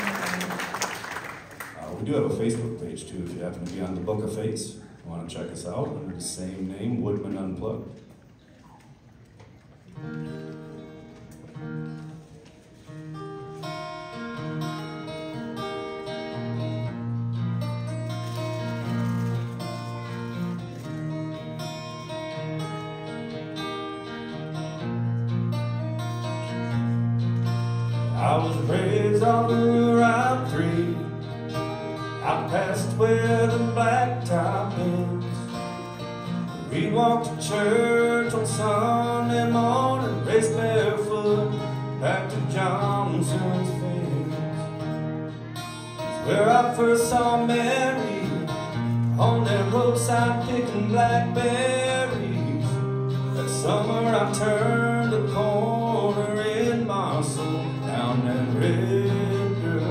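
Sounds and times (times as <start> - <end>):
acoustic guitars playing country tune: 0.0 - 59.9.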